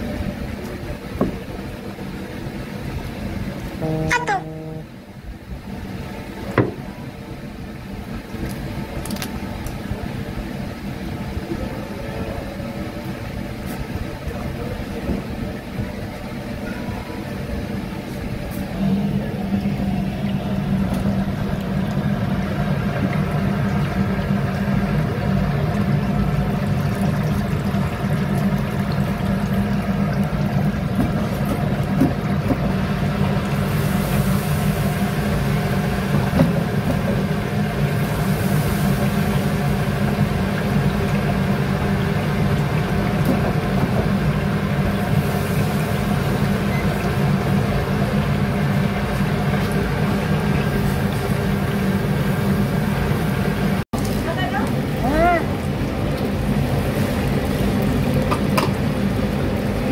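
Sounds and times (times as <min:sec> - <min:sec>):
low machine hum: 0:00.0 - 0:59.9
oil bubbling in a fryer: 0:00.0 - 0:59.9.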